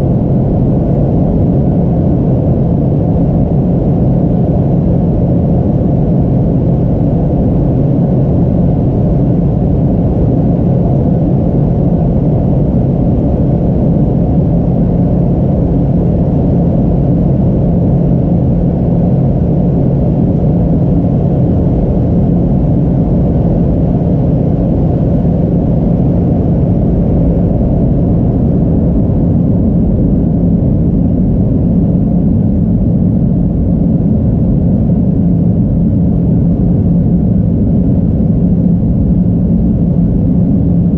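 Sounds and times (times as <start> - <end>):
airliner engines rumbling: 0.0 - 40.9
constant cabin hum: 0.0 - 40.9.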